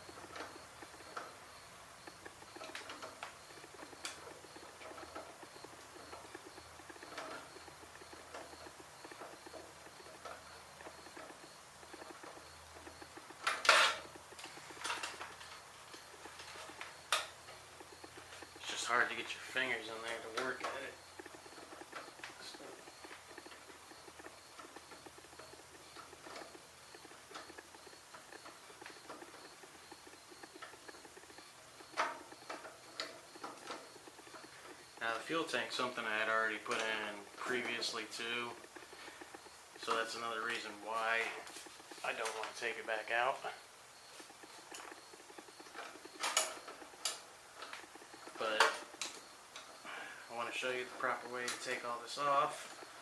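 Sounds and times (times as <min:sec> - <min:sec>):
fingers scratching and clicking: 0:00.0 - 0:53.0.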